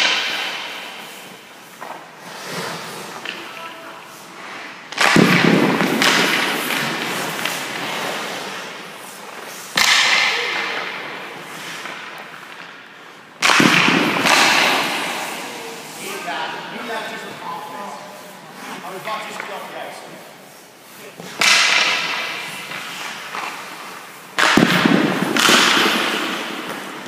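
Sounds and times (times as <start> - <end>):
hockey puck hits echoing: 0.0 - 3.6, 4.5 - 17.4, 21.2 - 27.0.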